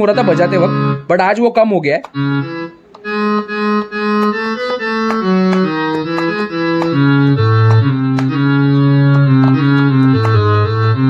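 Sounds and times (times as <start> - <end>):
harmonium melody: 0.0 - 11.0.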